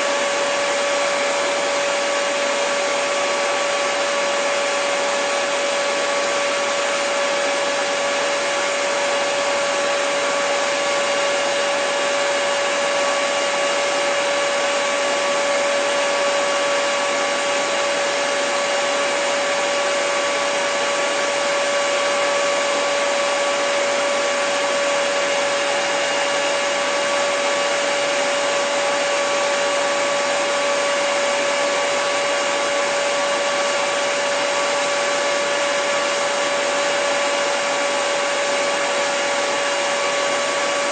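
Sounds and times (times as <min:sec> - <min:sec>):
hair dryer blowing air: 0:00.0 - 0:40.9.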